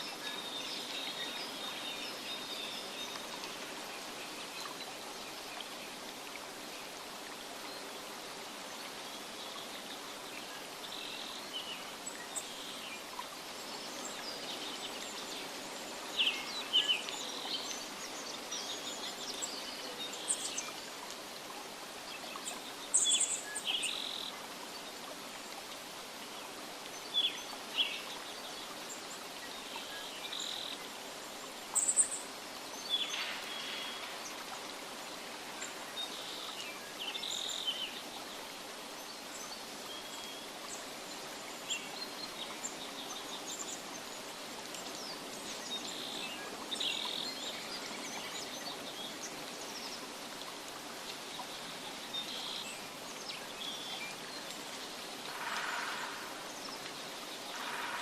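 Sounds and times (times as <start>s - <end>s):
steady soft hiss: 0.0s - 58.0s.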